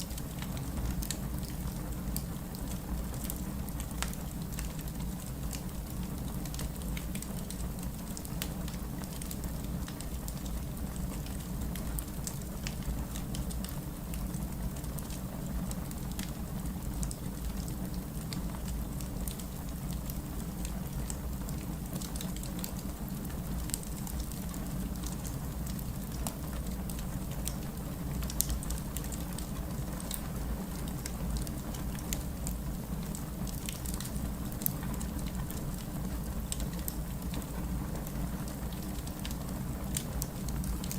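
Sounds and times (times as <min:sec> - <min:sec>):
campfire crackles and pops: 0:00.0 - 0:40.9
low rumble of flames: 0:00.0 - 0:40.9.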